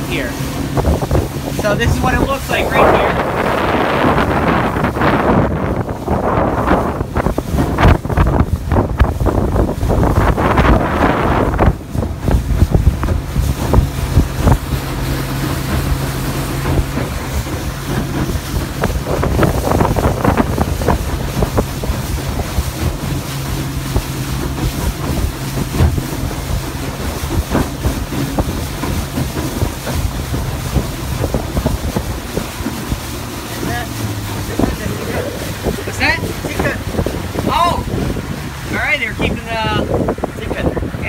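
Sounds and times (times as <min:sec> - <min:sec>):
motorboat engine humming: 0:00.0 - 0:41.0
wind buffeting microphone: 0:00.0 - 0:41.0.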